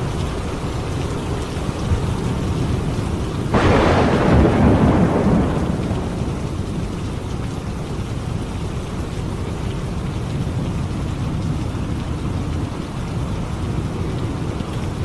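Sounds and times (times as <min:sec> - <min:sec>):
heavy rain: 0:00.0 - 0:15.0
thunderclap rumbling: 0:02.0 - 0:15.0.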